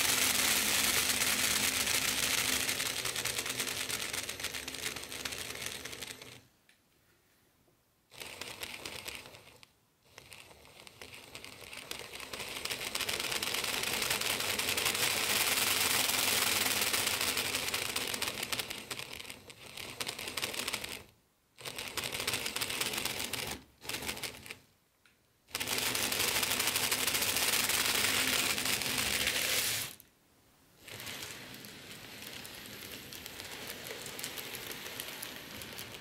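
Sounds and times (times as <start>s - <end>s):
model train clicking rattle: 0.0s - 6.4s, 8.1s - 24.6s, 25.5s - 30.0s, 30.8s - 36.0s.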